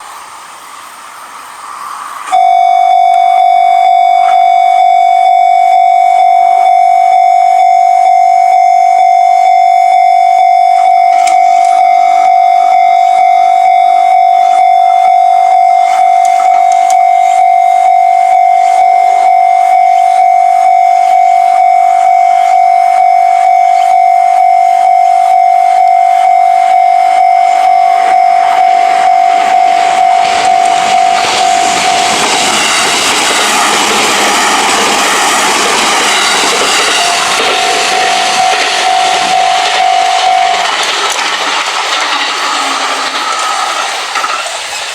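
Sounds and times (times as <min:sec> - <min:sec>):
train running noise: 0:00.0 - 0:44.9
level crossing bell ringing: 0:02.3 - 0:41.5.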